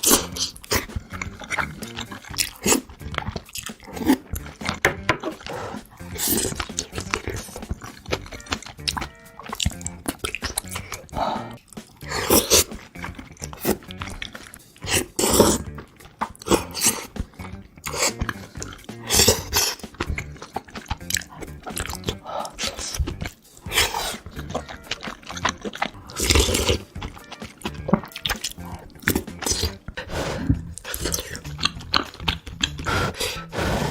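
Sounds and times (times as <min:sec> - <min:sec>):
background music: 0:00.0 - 0:33.9
wet chewing and slurping: 0:00.0 - 0:33.9.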